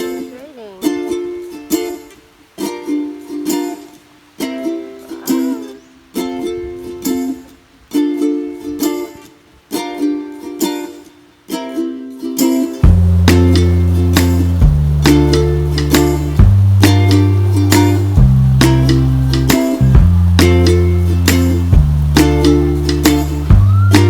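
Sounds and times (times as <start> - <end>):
plucked string instrument strumming: 0.0 - 24.0.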